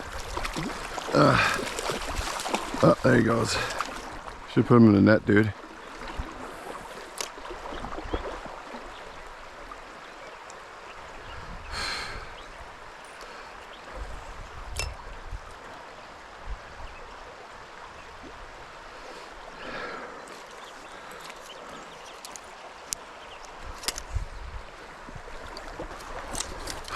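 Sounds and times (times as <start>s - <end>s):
stream water running: 0.0s - 26.9s
water swishes: 0.0s - 26.9s.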